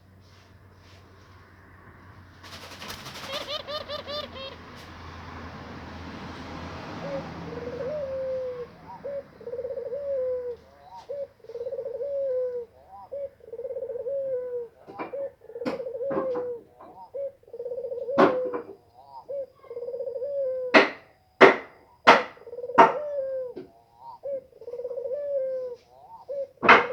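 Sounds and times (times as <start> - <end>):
dove cooing: 2.5 - 5.7, 6.3 - 26.9.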